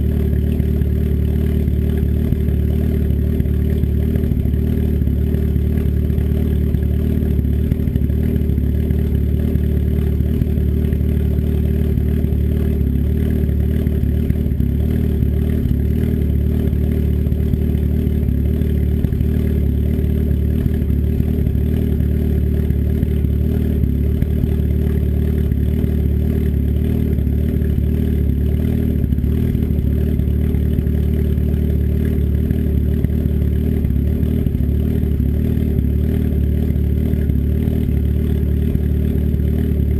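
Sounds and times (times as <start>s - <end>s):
turbocharged engine idling: 0.0s - 39.9s.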